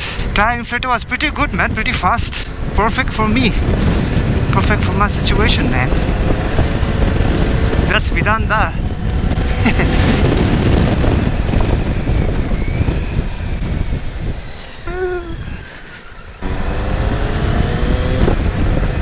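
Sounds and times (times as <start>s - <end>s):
motorcycle engine and road noise: 0.0s - 19.0s
wind rushing over microphone: 0.0s - 19.0s.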